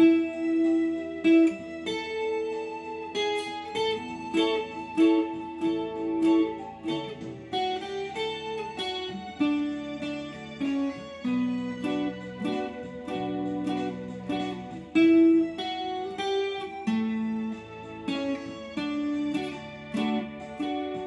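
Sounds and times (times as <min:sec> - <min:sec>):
acoustic guitar melody: 0:00.0 - 0:21.0.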